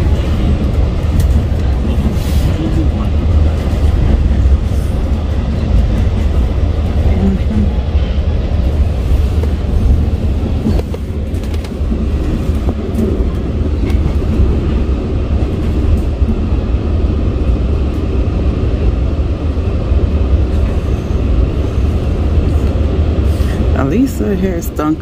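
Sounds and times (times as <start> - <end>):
wheels rumbling on track: 0.0 - 25.0.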